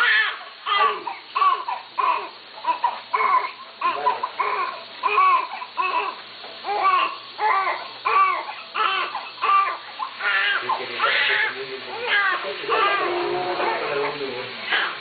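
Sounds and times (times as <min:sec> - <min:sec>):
baby crying: 0:00.0 - 0:15.0.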